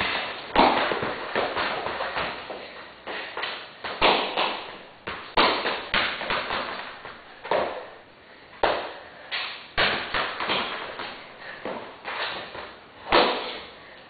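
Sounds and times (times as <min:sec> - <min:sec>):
ball thudding on concrete floor: 0:00.0 - 0:08.0, 0:08.6 - 0:13.7.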